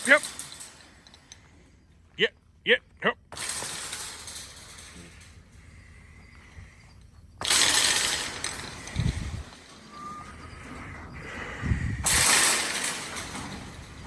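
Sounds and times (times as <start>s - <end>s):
metal clattering and rattling: 0.0s - 2.0s, 3.2s - 11.2s, 11.9s - 14.0s.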